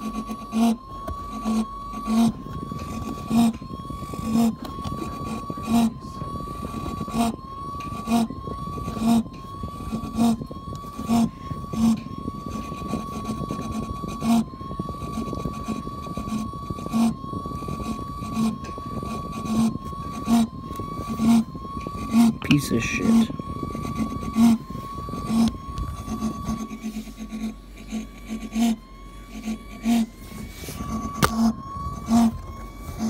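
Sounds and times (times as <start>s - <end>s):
appliance high whine: 0.0s - 33.0s.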